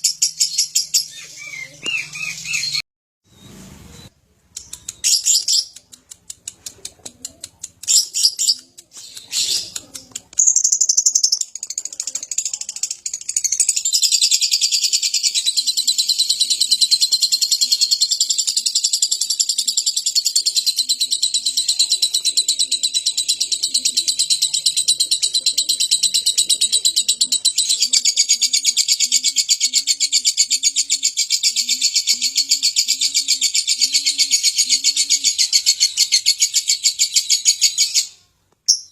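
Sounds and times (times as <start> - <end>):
lovebird chirping and chattering: 0.0 - 2.8, 4.5 - 38.9.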